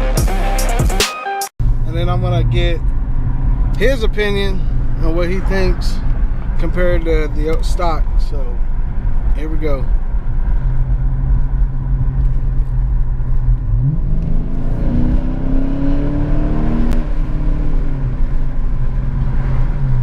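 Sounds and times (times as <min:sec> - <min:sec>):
car engine revving: 0:01.6 - 0:20.0.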